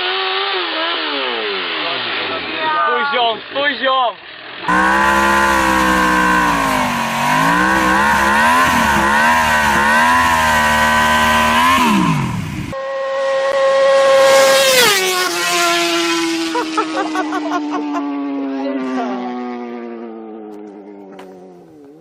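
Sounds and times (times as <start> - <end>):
motorcycle engine revving: 0.0 - 3.6, 4.2 - 22.0
motorcycle passing at speed: 4.3 - 22.0.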